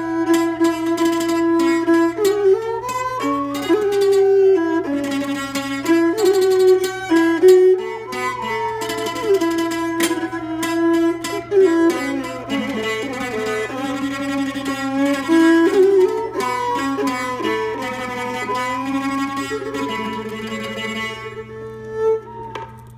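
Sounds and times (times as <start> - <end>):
plucked zither melody: 0.0 - 22.9.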